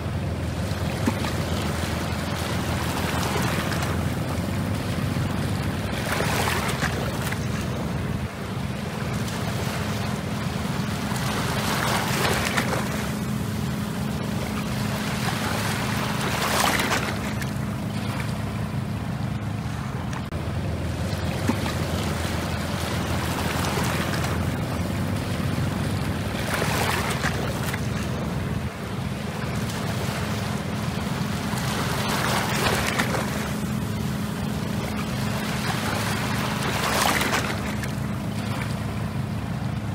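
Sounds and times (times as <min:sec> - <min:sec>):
diesel boat engine humming: 0:00.0 - 0:39.9
water washing against bank: 0:00.0 - 0:39.9.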